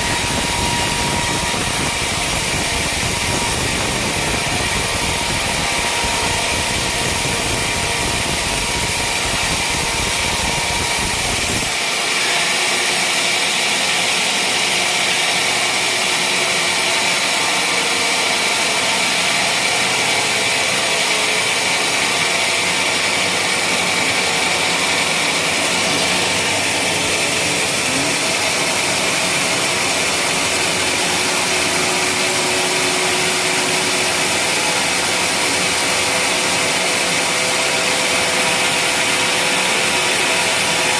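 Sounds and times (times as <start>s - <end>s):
wood-sawing machine whining: 0.0s - 40.9s.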